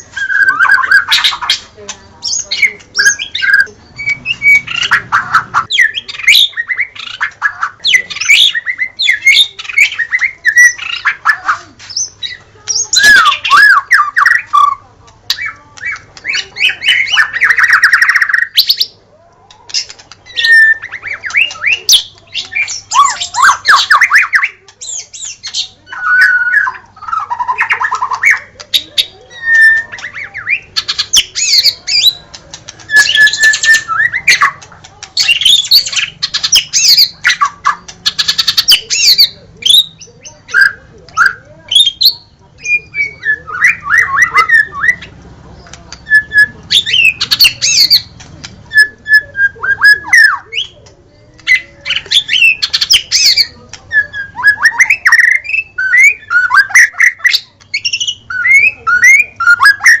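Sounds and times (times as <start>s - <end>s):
songbird singing: 0.0s - 60.0s.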